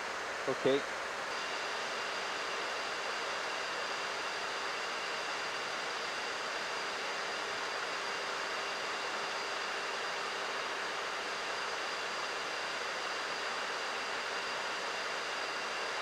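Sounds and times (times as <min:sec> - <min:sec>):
faint steady whines: 0:00.0 - 0:16.0.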